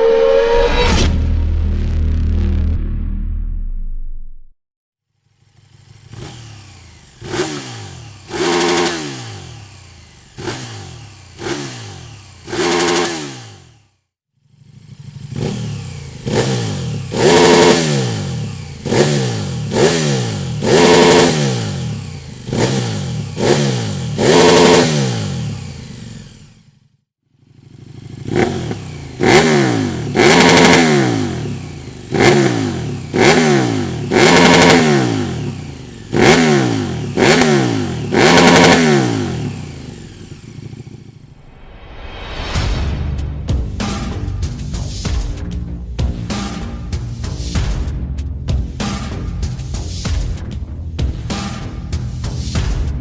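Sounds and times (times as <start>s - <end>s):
motorcycle engine revving: 5.2s - 41.5s, 43.6s - 53.0s.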